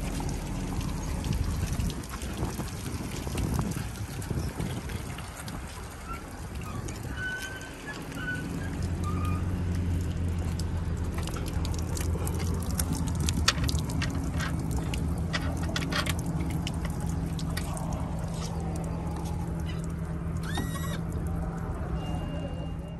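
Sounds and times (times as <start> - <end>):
water splashing and dripping: 0.0 - 22.9.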